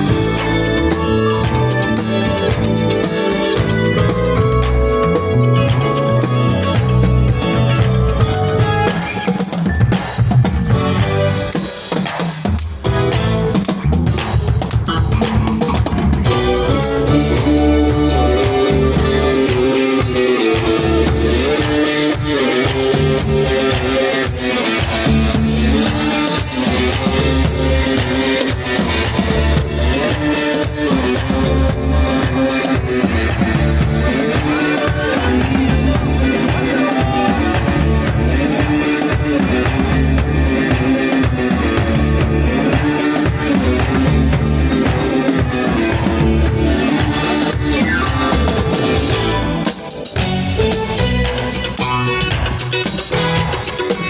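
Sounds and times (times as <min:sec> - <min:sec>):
drum kit beat: 0:00.0 - 0:54.0
guitar: 0:00.0 - 0:54.0
live band instrumental: 0:00.0 - 0:54.0.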